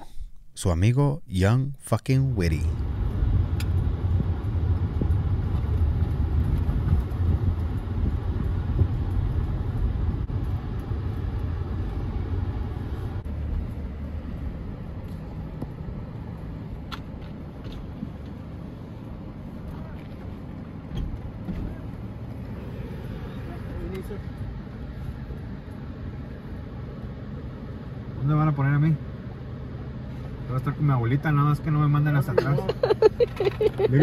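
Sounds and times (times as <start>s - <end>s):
vehicle engine and road rumble: 0.0s - 34.0s.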